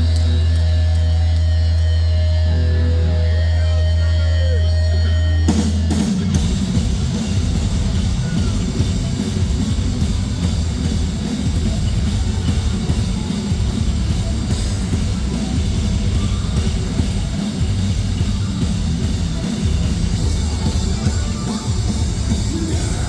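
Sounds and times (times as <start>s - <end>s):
metal band playing live: 0.0s - 23.0s.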